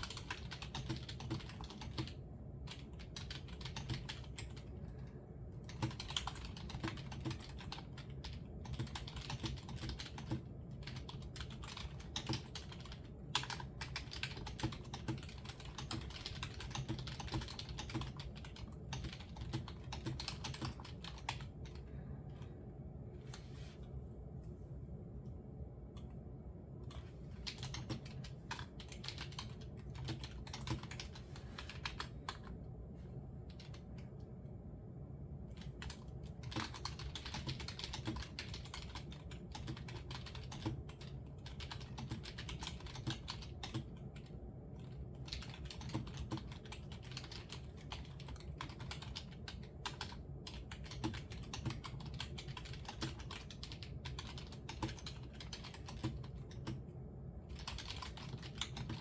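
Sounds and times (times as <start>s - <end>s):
keyboard typing: 0.0s - 4.9s, 5.5s - 21.9s, 26.8s - 32.6s, 33.4s - 34.2s, 35.5s - 59.0s
low background hum: 0.0s - 59.0s.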